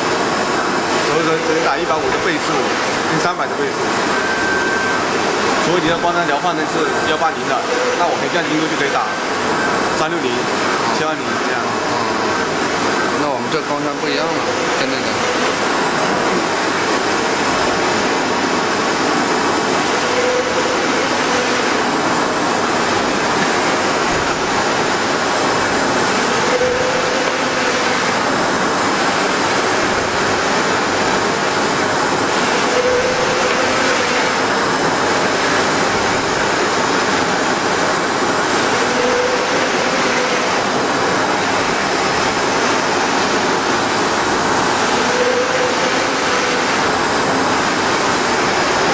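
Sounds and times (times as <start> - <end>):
printer machine noise: 0.0 - 48.9.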